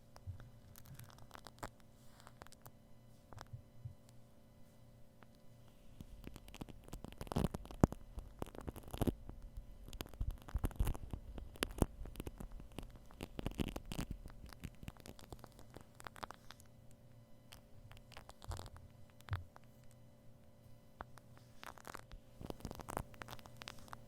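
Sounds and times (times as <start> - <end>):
shaving cream crackling and popping: 0.0 - 4.1, 5.2 - 20.1, 20.9 - 24.0.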